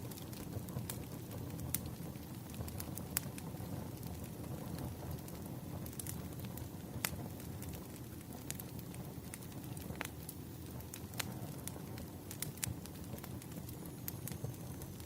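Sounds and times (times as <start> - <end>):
firewood crackling: 0.0 - 15.0
low rumble of flames: 0.0 - 15.0.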